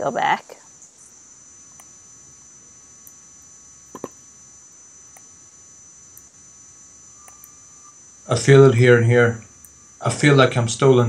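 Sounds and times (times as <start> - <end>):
high whine: 0.0 - 11.0
low electronic hum: 0.0 - 11.0.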